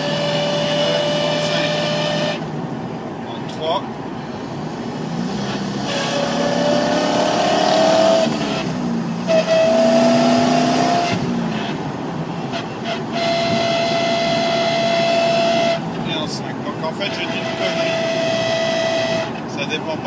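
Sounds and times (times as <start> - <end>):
car engine: 0.0 - 20.0
road noise: 0.0 - 20.0.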